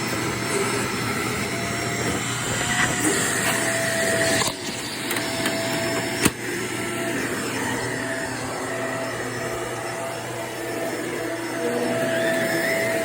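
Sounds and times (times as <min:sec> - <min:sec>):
vacuum cleaner humming: 0:00.0 - 0:13.0.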